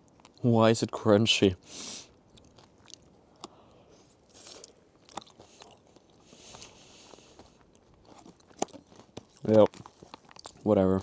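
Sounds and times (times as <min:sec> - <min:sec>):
close chewing of crunchy food: 0:00.0 - 0:00.5, 0:01.6 - 0:11.0.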